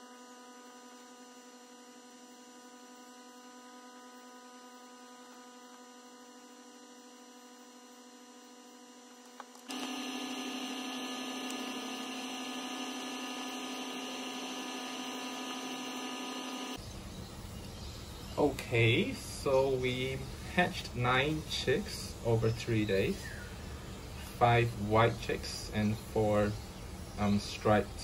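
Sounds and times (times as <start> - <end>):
fan motor humming: 0.0 - 28.0.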